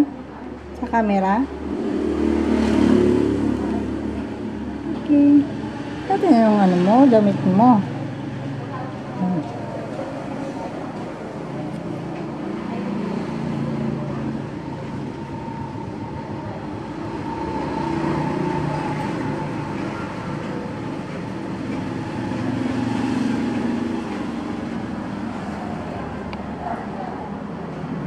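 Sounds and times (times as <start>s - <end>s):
low rumbling background noise: 0.0s - 28.0s.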